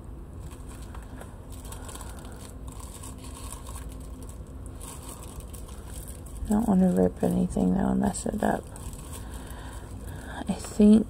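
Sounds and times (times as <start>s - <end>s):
plastic packaging crinkling: 0.3s - 11.0s.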